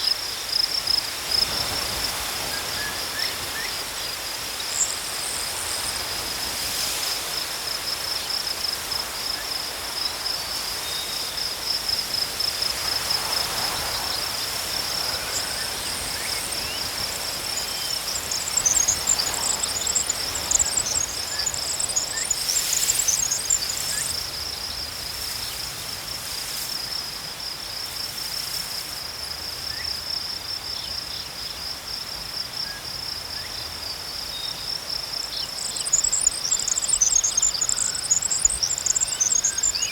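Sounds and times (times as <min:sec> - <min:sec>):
insects trilling: 0:00.0 - 0:39.9
wind in tall grass: 0:00.0 - 0:39.9.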